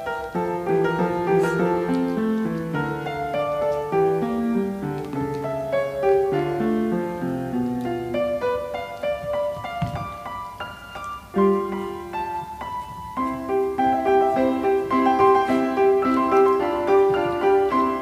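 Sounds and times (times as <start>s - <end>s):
light piano melody: 0.0s - 18.0s.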